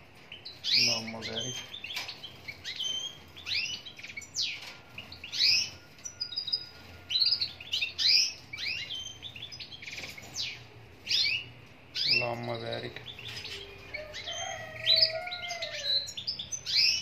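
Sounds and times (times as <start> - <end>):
goldfinch twittering song: 0.3 - 17.0.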